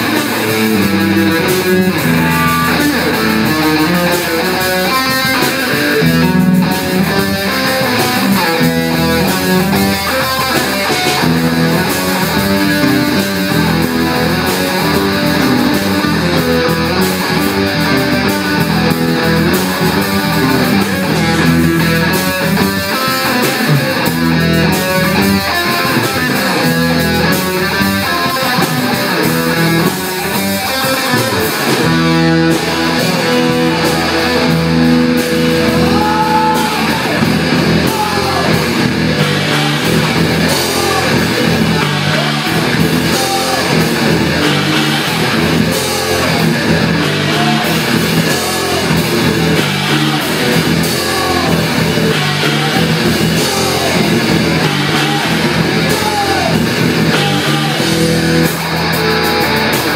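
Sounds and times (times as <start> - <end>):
drums: 0.0 - 59.9
electric guitar: 0.0 - 59.9.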